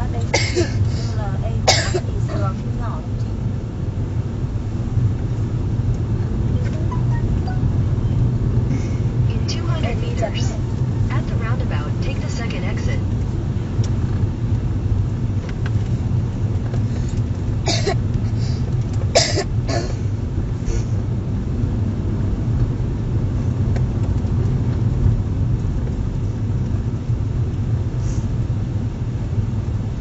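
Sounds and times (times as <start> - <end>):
car engine rumble: 0.0 - 30.0.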